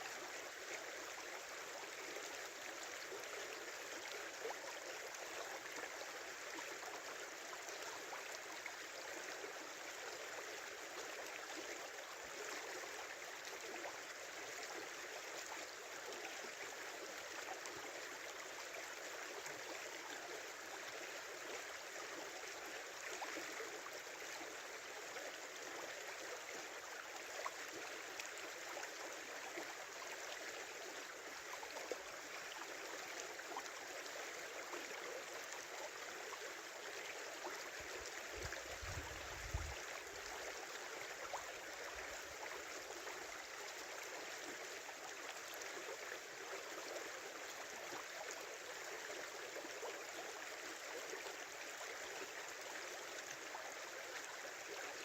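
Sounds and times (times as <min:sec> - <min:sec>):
river water babbling: 0:00.0 - 0:55.0.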